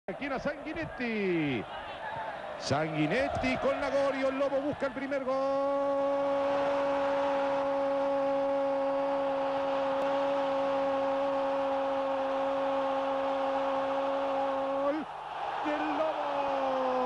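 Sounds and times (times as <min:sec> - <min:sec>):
crowd cheering: 0:00.1 - 0:17.0.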